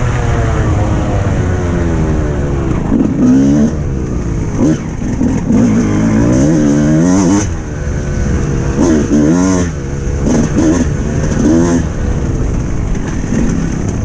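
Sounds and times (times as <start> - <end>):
motocross bike engine revving: 1.1 - 14.0.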